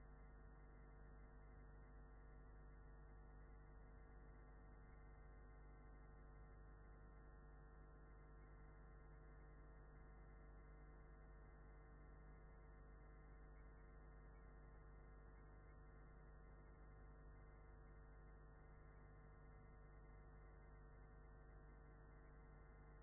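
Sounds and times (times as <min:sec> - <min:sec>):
faint low hum: 0:02.5 - 0:23.0.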